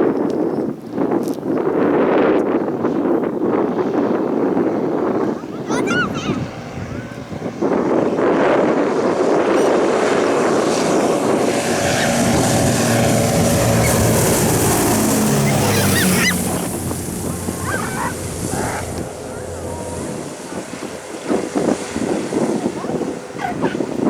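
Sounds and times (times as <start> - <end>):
propeller aircraft passing overhead: 1.7 - 24.0.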